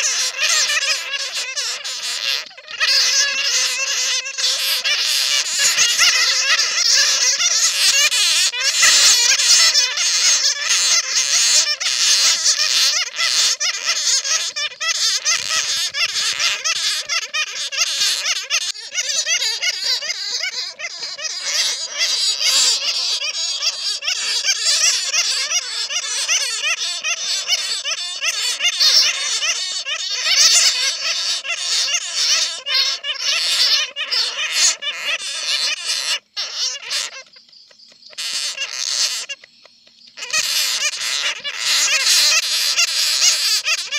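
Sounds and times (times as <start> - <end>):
bats squeaking and chattering: 0.0 - 43.9.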